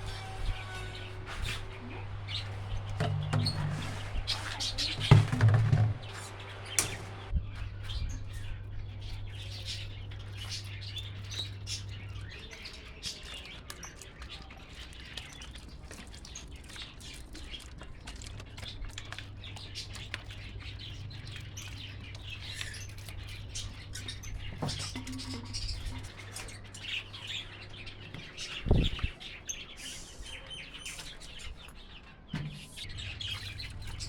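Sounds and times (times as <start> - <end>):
budgies and lovebirds chirping: 0.0 - 34.0.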